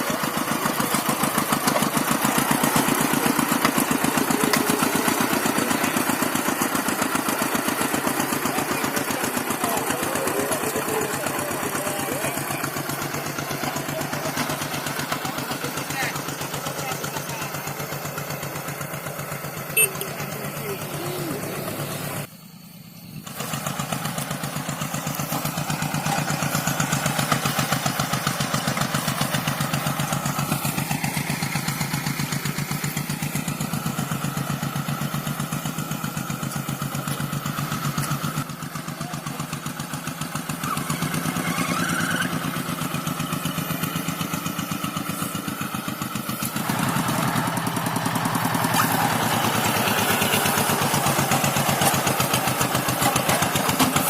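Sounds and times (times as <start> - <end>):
hand tractor engine chugging: 0.0 - 22.3, 23.3 - 54.0.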